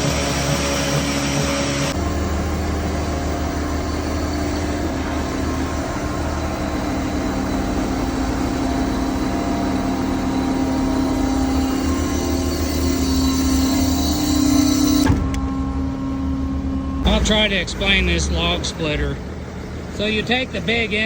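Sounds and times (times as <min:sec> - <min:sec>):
sawmill machinery droning: 0:00.0 - 0:21.0.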